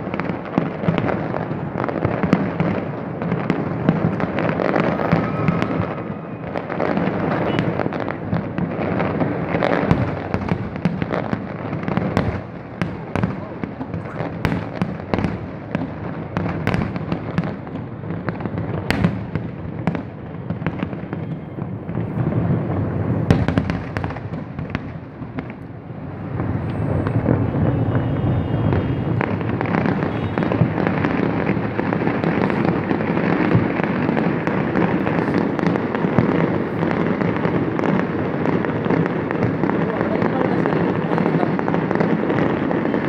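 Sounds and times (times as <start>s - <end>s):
dense fireworks din: 0.0s - 43.0s
fireworks bangs: 0.0s - 43.0s.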